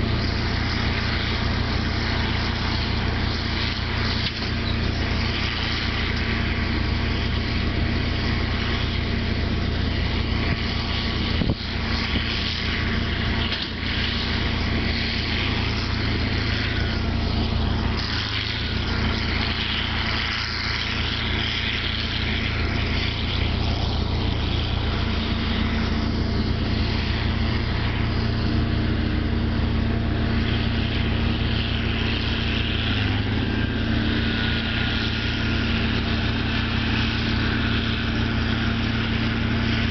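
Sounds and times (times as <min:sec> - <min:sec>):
baler machinery running: 0:00.0 - 0:39.9
tractor diesel engine running: 0:00.0 - 0:39.9.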